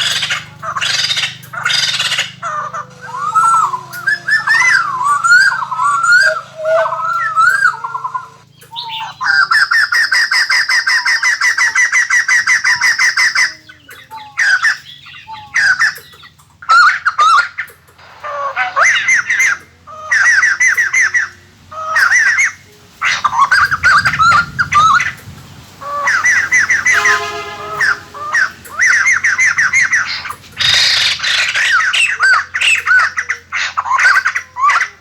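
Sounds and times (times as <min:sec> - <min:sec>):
birds chattering cackles: 0:00.0 - 0:35.0.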